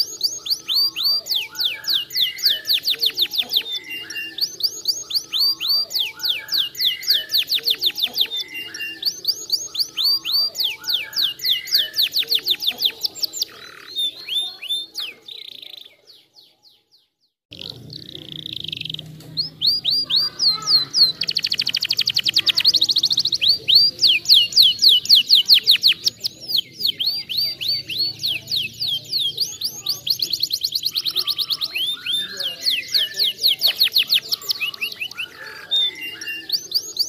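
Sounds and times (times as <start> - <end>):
canary singing: 0.0 - 37.0.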